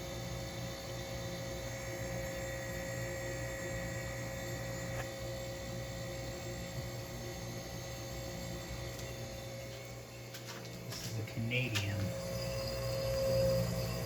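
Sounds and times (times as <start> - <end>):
appliance hum: 0.0 - 14.0
high tone in hum: 0.0 - 14.0.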